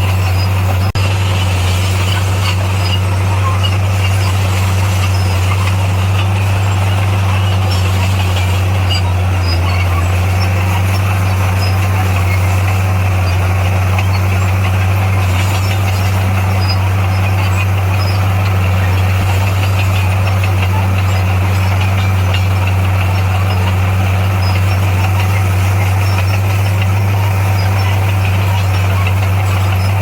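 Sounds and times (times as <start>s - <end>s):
heavy machine diesel engine running: 0.0s - 30.0s.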